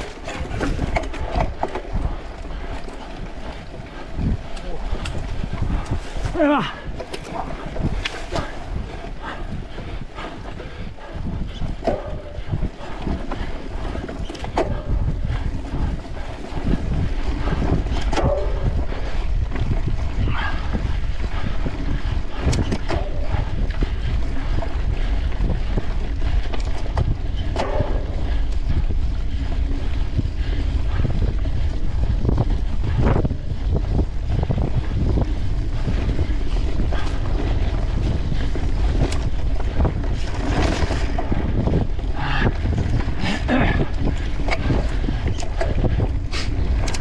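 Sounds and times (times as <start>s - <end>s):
bike knocks and rattles: 0.0s - 47.0s
wind buffeting microphone: 0.0s - 47.0s.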